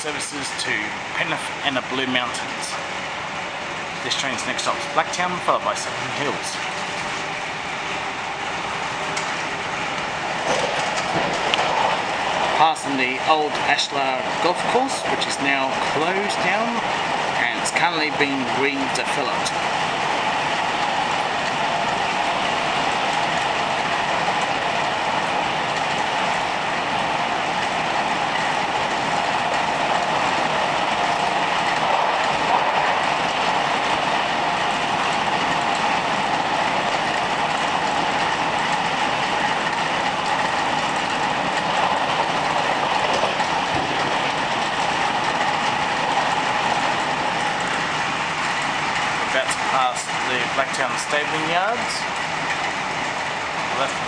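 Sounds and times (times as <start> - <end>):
train carriage hum: 0.0 - 54.0
train wheels on rails: 0.0 - 54.0.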